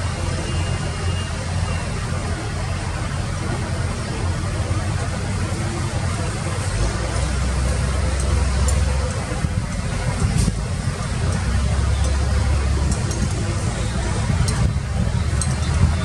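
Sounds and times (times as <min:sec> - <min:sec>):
excavator engine rumbling: 0:00.0 - 0:16.0.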